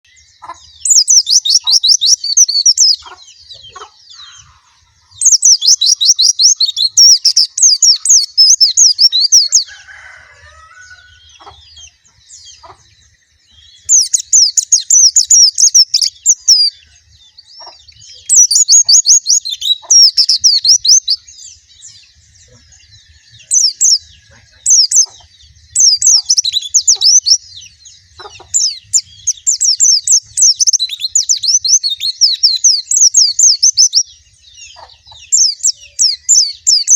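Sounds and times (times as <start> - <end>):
bird rapid high chirping: 0.0 - 36.9.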